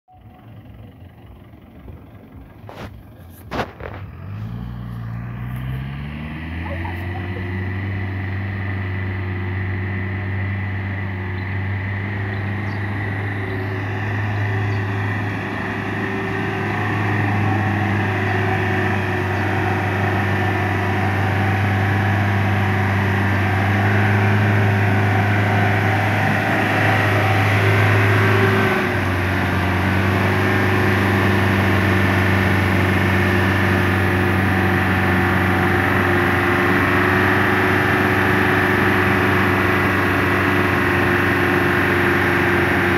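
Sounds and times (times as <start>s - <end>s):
vehicle engine climbing hill: 0.1s - 42.9s.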